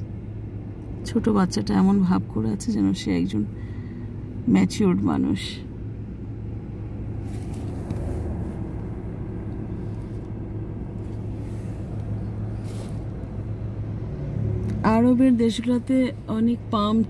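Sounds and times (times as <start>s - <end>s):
car idling: 0.0s - 17.0s.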